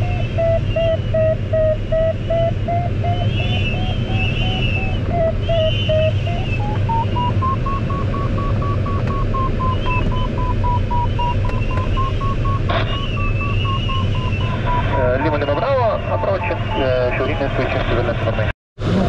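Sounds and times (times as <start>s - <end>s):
variometer beeping in short pulses: 0.0s - 17.0s.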